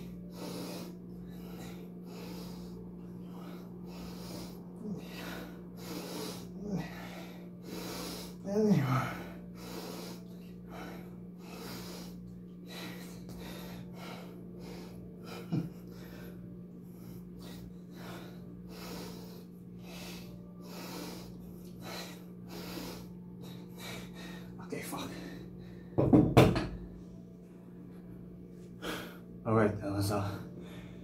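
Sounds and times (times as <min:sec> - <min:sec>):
man breathing hard: 0:00.0 - 0:26.2, 0:28.8 - 0:29.4, 0:30.2 - 0:31.0
steady low hum: 0:00.0 - 0:31.0.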